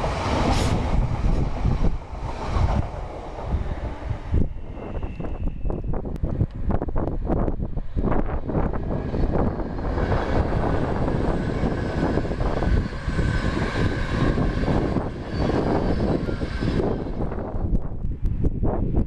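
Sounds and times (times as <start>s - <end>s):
train passing at speed: 0.0s - 17.9s
wind buffeting microphone: 0.0s - 19.0s.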